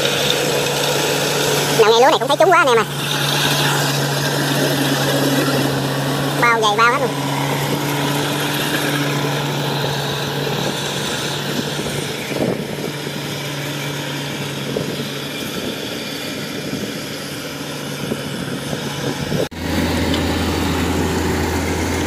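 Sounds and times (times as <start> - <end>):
diesel engine hum: 0.0 - 22.0.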